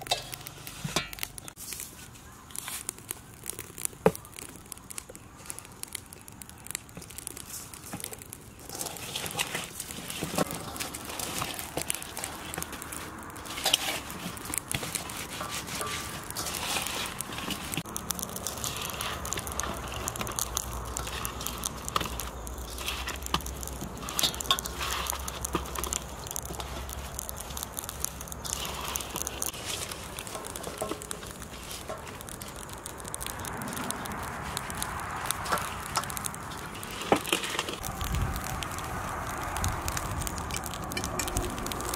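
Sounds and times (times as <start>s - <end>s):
hands crinkling fruit in bowl: 0.0s - 41.9s.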